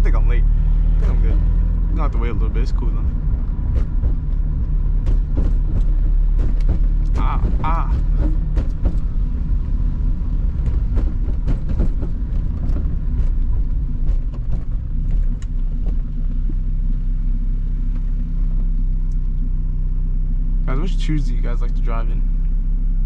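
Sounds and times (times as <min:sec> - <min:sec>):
car engine rumble inside cabin: 0:00.0 - 0:23.0.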